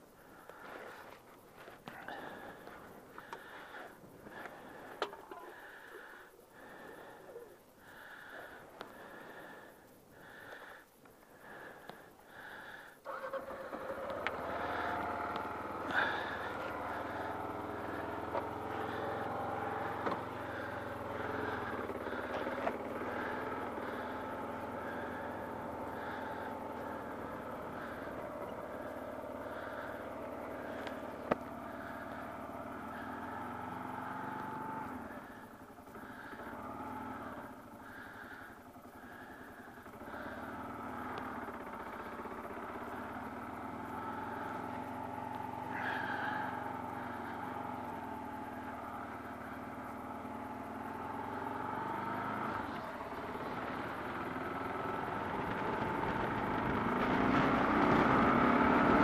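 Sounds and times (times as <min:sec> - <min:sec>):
motorcycle engine running: 0:00.2 - 0:10.8, 0:11.4 - 0:59.0.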